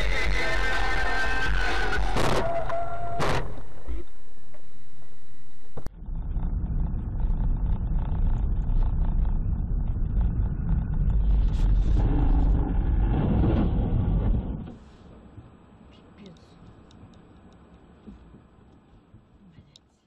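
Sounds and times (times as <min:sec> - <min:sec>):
car engine and road noise rumble: 0:00.0 - 0:20.0.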